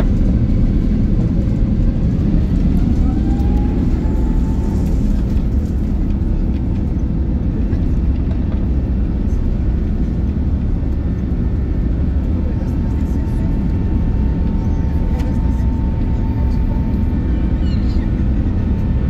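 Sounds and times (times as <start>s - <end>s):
faint engine whine: 0.0s - 19.0s
jet engine low rumble: 0.0s - 19.0s.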